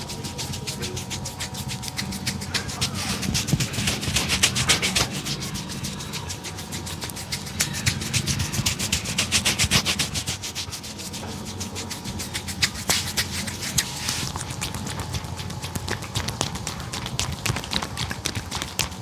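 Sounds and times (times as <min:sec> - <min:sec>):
hands rubbing hair: 0:00.0 - 0:17.7.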